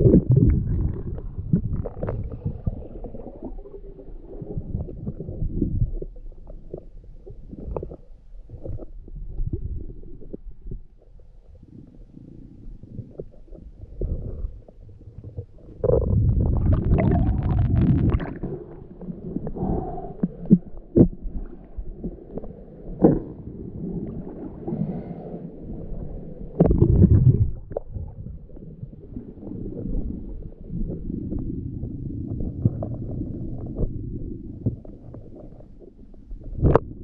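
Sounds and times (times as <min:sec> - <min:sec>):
rushes of water: 0:00.0 - 0:10.7, 0:11.5 - 0:37.0
muffled underwater rumble: 0:00.0 - 0:37.0.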